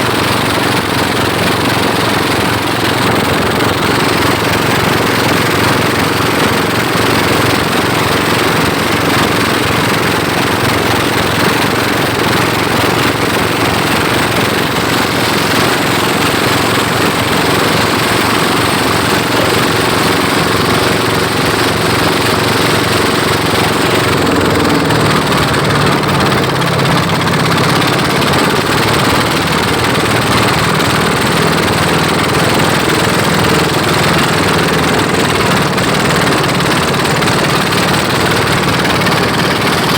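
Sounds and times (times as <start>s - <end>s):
lower-pitched engine: 0.0s - 39.9s
motorboat engines running hard: 0.0s - 39.9s.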